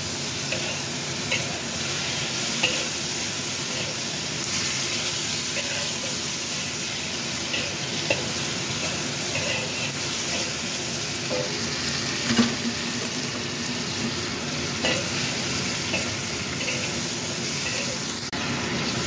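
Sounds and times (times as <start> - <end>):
stir-fry sizzling in a wok: 0.0 - 19.0
spatula scraping a wok: 0.4 - 13.6, 14.6 - 18.2.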